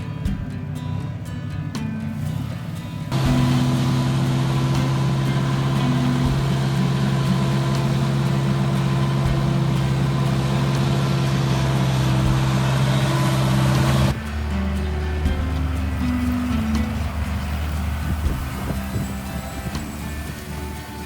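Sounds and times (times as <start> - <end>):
farm machine engine running: 0.0 - 21.0.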